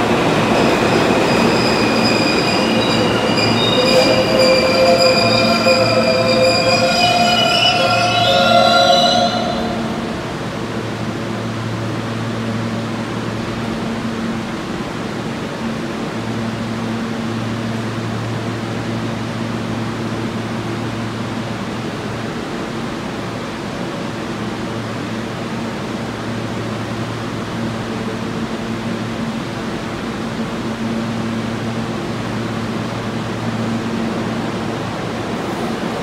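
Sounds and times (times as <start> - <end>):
subway train air-conditioning hum: 0.0 - 36.0.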